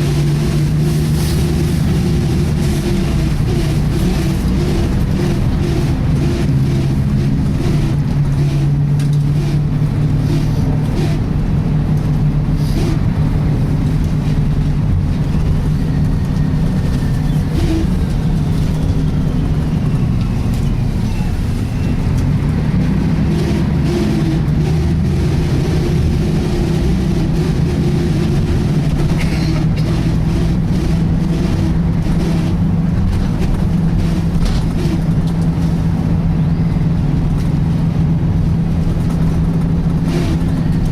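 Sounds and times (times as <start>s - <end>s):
bus drivetrain drone: 0.0s - 40.9s.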